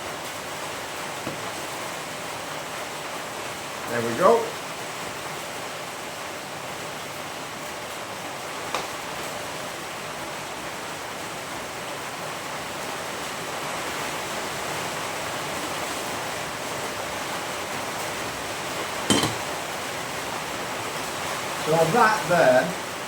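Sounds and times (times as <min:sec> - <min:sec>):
heavy rain on a roof: 0:00.0 - 0:23.0.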